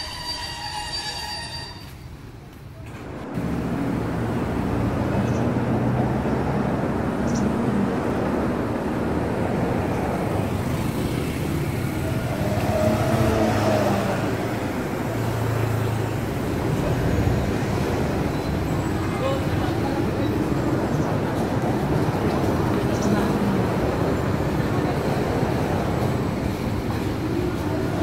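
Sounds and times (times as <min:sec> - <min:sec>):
road traffic hum: 0:01.9 - 0:28.0
vehicle passing: 0:03.0 - 0:28.0.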